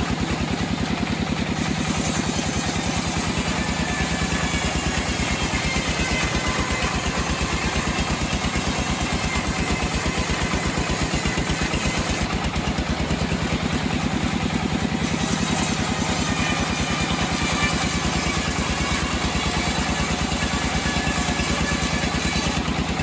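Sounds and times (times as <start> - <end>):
band saw cutting through log: 0.0 - 23.0
engine beat: 0.0 - 23.0.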